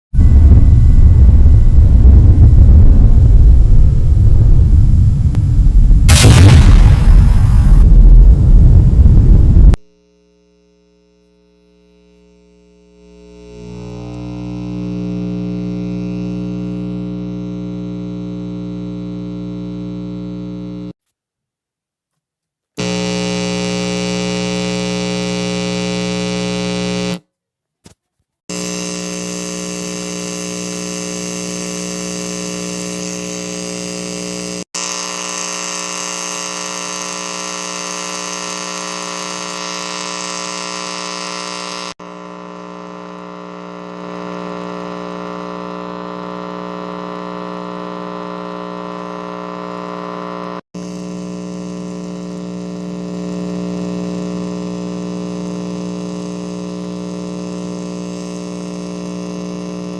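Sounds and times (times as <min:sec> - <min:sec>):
electrical buzz and hum: 0:00.2 - 0:21.0, 0:22.8 - 0:27.2, 0:28.5 - 0:59.9.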